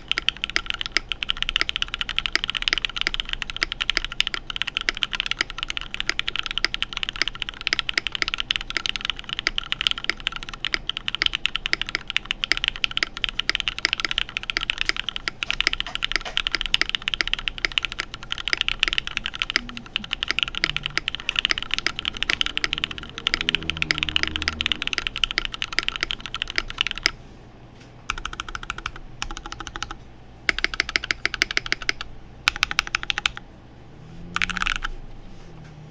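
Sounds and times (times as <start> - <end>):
mechanical keyboard typing: 0.0 - 27.2, 28.1 - 33.4, 34.4 - 35.0.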